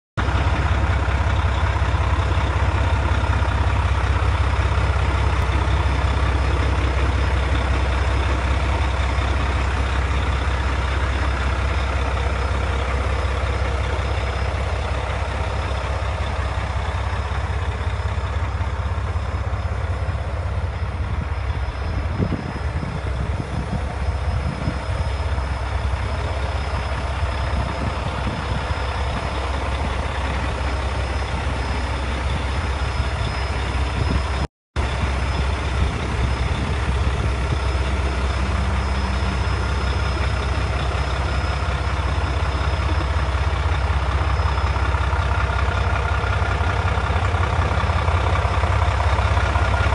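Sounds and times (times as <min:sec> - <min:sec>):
diesel truck engine idling: 0:00.2 - 0:49.9.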